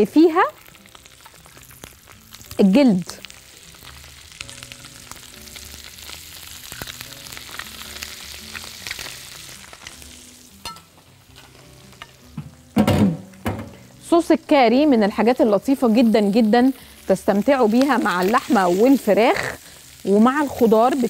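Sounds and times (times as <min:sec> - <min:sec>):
chicken sizzling in butter: 0:00.0 - 0:12.7, 0:13.8 - 0:21.0.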